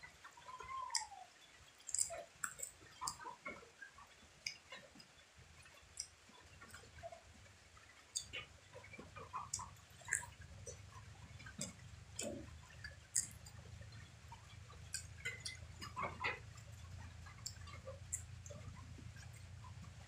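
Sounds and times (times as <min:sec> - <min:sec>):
faint low hum: 0:00.0 - 0:20.0
lip smacks and chewing: 0:00.2 - 0:20.0.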